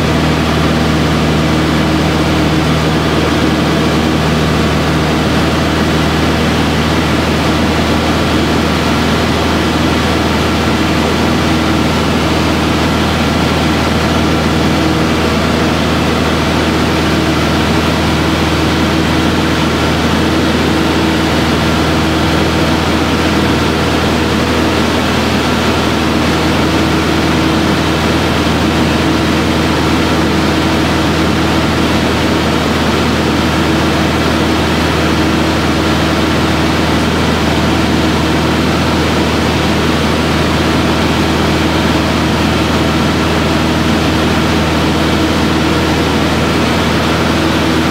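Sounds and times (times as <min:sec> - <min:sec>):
propeller aircraft engine drone: 0:00.0 - 0:47.9.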